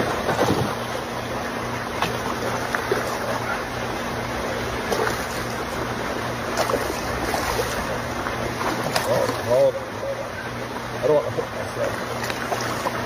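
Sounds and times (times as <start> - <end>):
water noise: 0.0 - 13.0
wind: 0.0 - 13.0.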